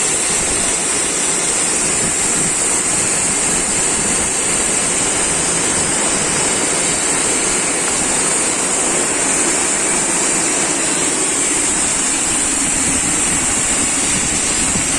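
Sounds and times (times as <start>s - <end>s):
heavy rain pouring: 0.0s - 14.9s
high hiss: 0.0s - 14.9s.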